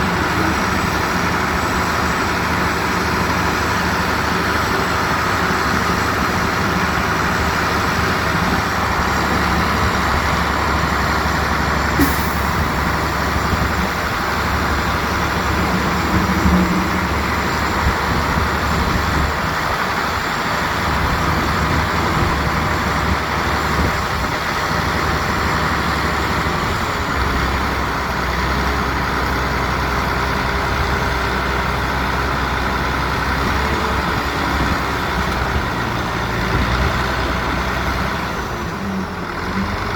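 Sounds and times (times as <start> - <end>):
diesel construction machinery running: 0.0 - 39.9.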